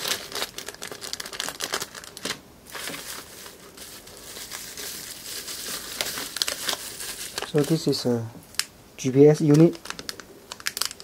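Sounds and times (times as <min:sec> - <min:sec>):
plastic packaging crinkling: 0:00.0 - 0:08.7, 0:09.3 - 0:11.0.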